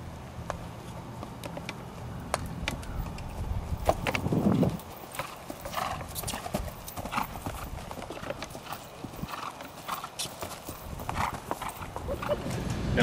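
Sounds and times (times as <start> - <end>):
horse hoofbeats on turf: 0.4 - 12.6.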